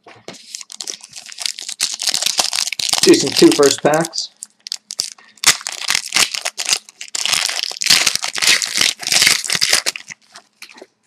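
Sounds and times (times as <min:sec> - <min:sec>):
wrapper tearing and crinkling: 0:00.4 - 0:10.9.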